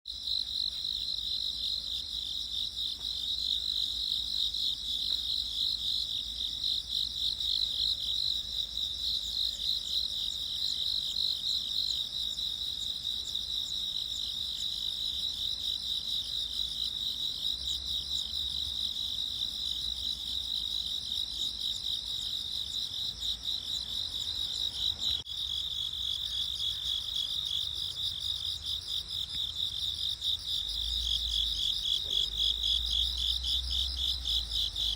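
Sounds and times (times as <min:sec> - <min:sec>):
insects trilling: 0:00.1 - 0:34.9.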